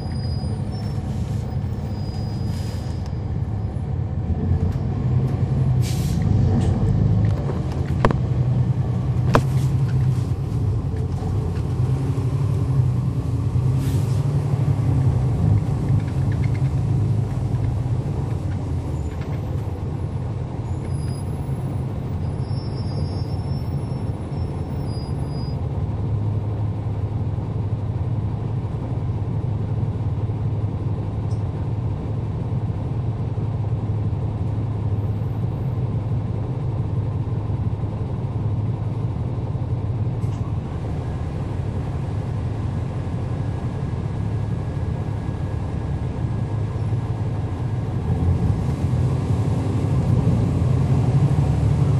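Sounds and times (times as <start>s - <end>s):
bus engine low drone: 0.0s - 51.9s.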